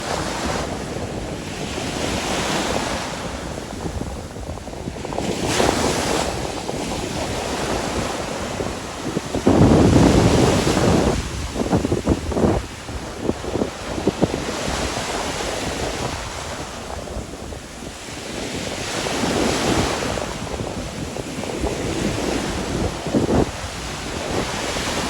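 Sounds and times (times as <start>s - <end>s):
ocean surf washing onto beach: 0.0s - 25.0s
wind buffeting microphone: 0.0s - 25.0s.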